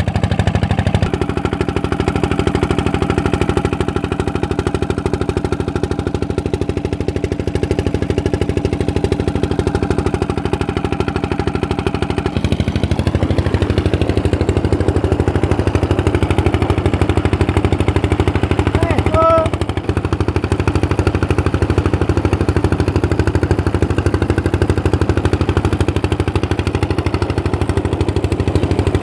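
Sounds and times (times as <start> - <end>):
stationary engine running: 0.0 - 29.0.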